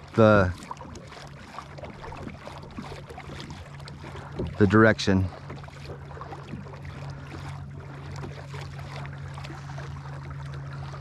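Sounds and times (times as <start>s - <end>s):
water washing along hull: 0.0s - 11.0s.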